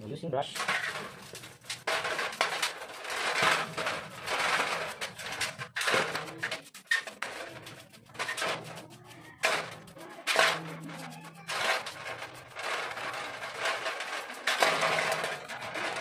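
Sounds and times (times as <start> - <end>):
toothbrush scrubbing metal: 0.6 - 16.0.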